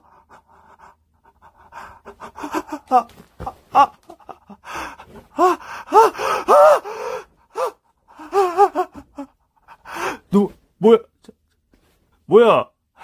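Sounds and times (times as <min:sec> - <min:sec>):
person gasping and whimpering: 0:00.0 - 0:10.6.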